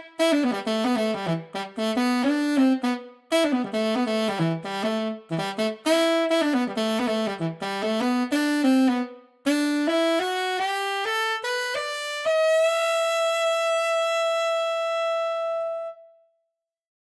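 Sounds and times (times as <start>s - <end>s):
tenor saxophone run of short notes: 0.0s - 16.2s.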